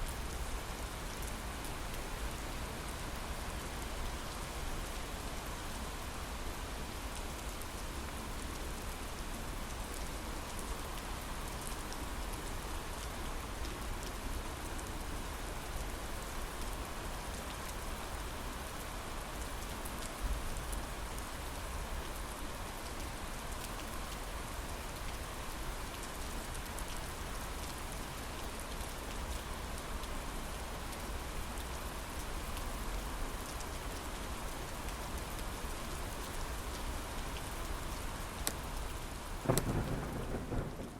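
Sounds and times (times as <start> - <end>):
heavy rain on a window: 0.0 - 40.9.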